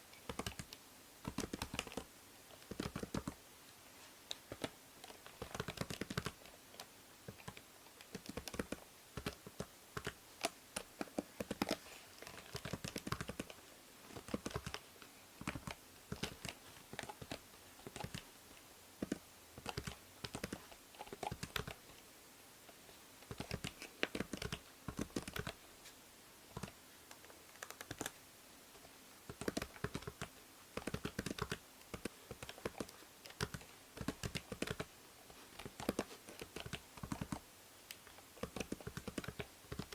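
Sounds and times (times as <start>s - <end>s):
faint microphone hiss: 0.0s - 39.9s
computer keyboard typing: 0.3s - 3.4s, 4.3s - 18.3s, 19.0s - 21.8s, 23.2s - 25.6s, 26.5s - 28.2s, 29.3s - 34.9s, 35.5s - 39.9s.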